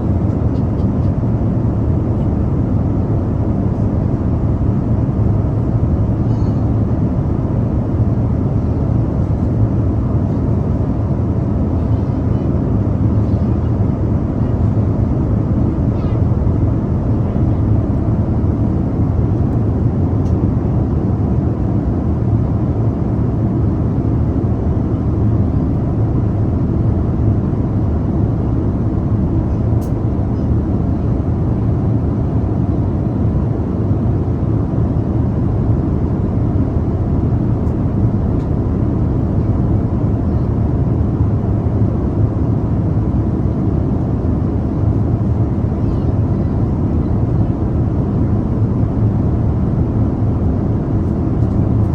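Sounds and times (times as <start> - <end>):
airplane cabin roar: 0.0 - 51.9.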